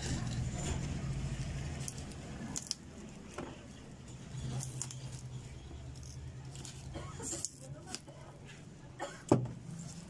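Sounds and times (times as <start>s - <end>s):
copper wire rustling: 0.0s - 8.8s.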